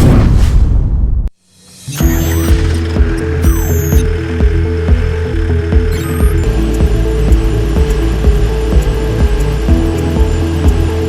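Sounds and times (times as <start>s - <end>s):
electronic track with steady beat: 1.9s - 11.0s.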